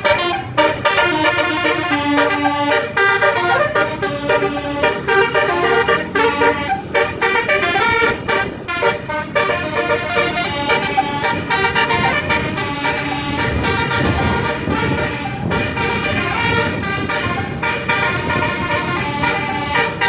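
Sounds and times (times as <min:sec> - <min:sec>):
bus horn melody: 0:00.0 - 0:20.0
low rumble: 0:00.1 - 0:17.6.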